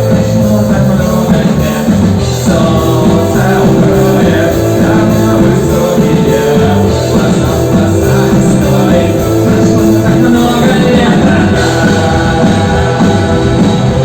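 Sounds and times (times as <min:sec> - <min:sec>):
person singing: 0:00.0 - 0:14.0
rock band playing live: 0:00.0 - 0:14.0.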